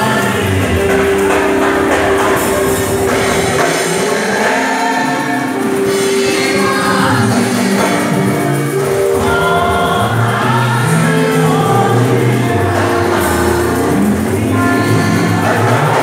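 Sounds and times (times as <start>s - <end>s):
group singing gospel in harmony: 0.0s - 16.0s
live band playing: 0.0s - 16.0s.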